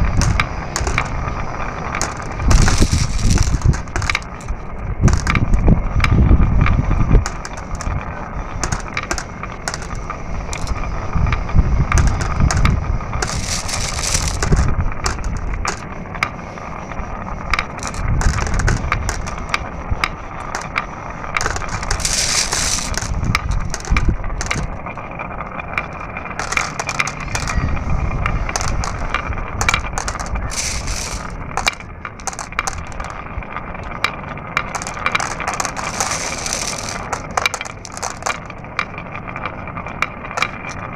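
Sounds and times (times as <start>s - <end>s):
marbles clicking and clacking: 0.0s - 40.9s
marbles rolling on a track: 0.0s - 40.9s.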